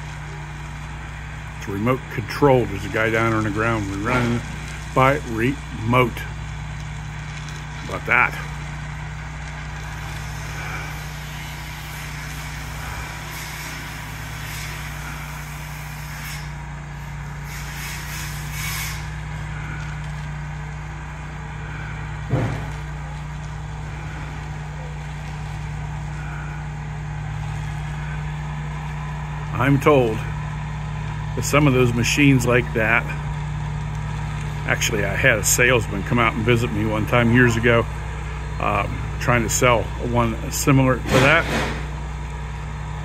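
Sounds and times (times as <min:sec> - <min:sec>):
engine drone: 0:00.0 - 0:43.0.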